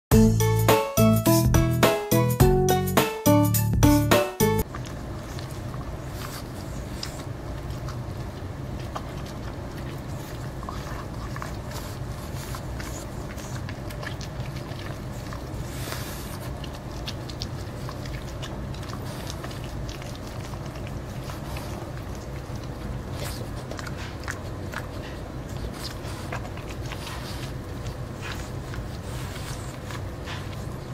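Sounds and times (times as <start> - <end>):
steady low hum: 0.1 - 30.9
dog crunching corn cob: 4.6 - 30.9.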